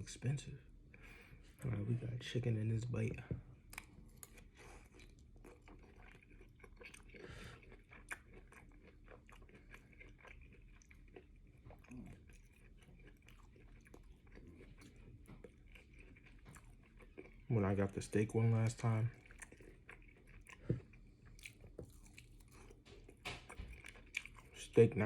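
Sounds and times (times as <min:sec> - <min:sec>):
person chewing food: 0:03.1 - 0:25.0.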